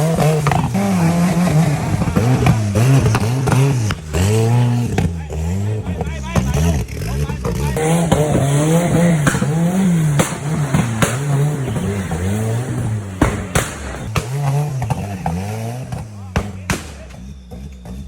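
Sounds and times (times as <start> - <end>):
engine revving up and down: 0.0 - 18.0.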